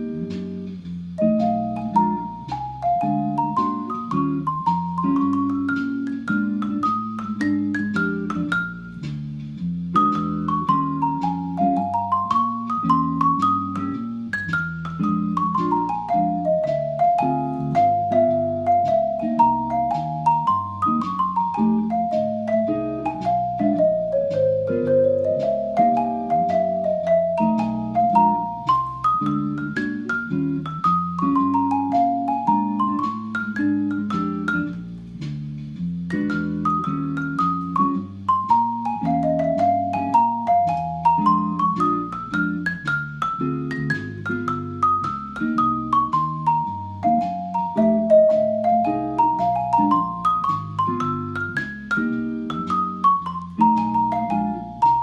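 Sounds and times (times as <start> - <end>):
marimba melodic runs: 1.2 - 35.0, 36.0 - 55.0.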